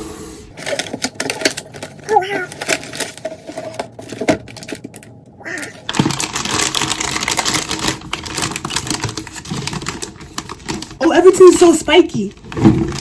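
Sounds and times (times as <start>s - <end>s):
packaging crinkling and rustling: 0.5s - 13.0s.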